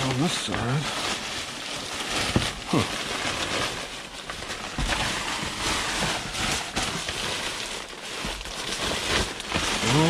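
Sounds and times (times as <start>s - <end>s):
paper and cardboard rustling: 0.0s - 10.0s.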